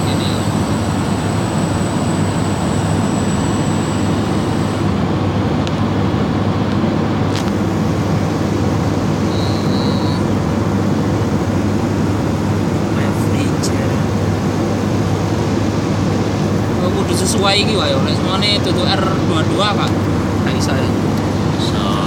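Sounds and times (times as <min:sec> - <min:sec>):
air conditioner unit humming: 0:00.0 - 0:22.0.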